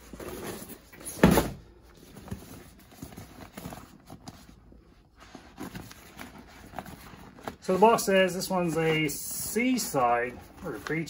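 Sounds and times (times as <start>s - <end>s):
vinyl sheet rustling: 0.0s - 11.0s.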